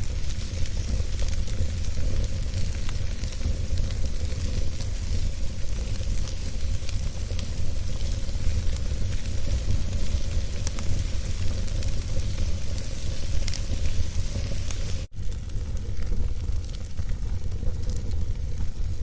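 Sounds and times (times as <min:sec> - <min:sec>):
fire crackles and pops: 0:00.0 - 0:19.0
fire hissing and rumbling: 0:00.0 - 0:19.0.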